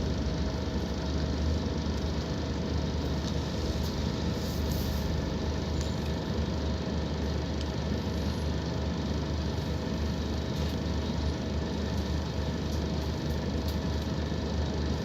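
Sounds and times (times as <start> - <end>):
diesel bus engine rumble: 0.0 - 15.0.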